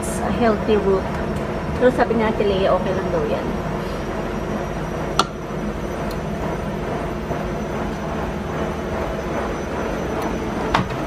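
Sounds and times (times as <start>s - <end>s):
air fryer fan whirring: 0.0s - 11.0s.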